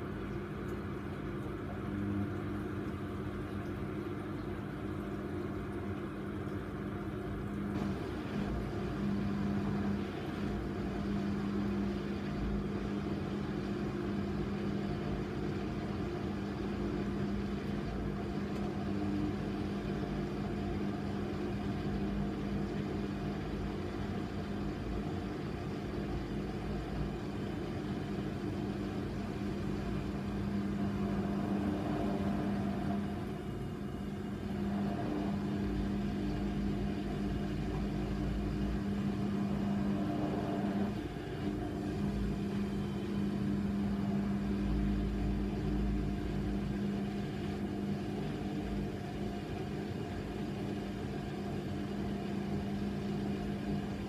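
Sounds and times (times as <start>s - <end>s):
washing machine motor hum: 0.0s - 54.0s
wet load churning in drum: 0.0s - 54.0s.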